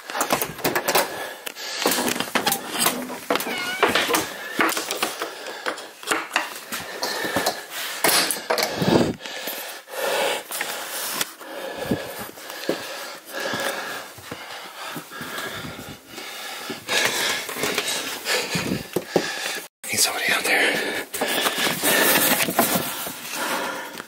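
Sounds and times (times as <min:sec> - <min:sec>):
person breathing heavily: 0:00.0 - 0:02.8, 0:03.6 - 0:24.0.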